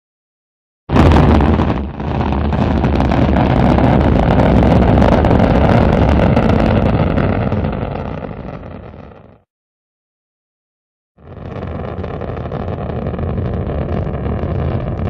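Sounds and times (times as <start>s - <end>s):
rocket engine roaring: 0.9s - 9.4s, 11.2s - 15.0s.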